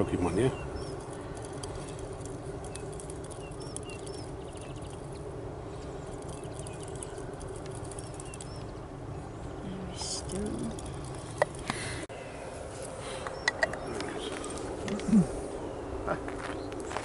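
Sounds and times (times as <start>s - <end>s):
small birds chirping: 0.0s - 17.0s
steady low background noise: 0.0s - 17.0s.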